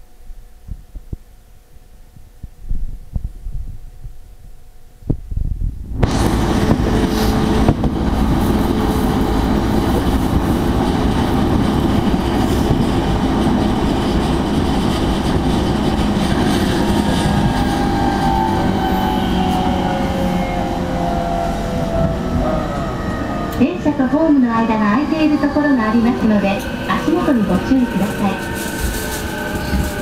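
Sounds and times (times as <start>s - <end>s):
train rumbling on rails: 3.0s - 30.0s
falling pitch train whine: 5.9s - 30.0s.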